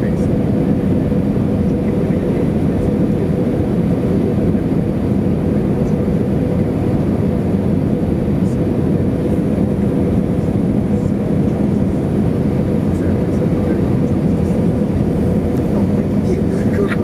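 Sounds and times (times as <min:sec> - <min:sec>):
airflow rumble: 0:00.0 - 0:17.0
jet engine drone: 0:00.0 - 0:17.0
steady low hum: 0:00.0 - 0:17.0.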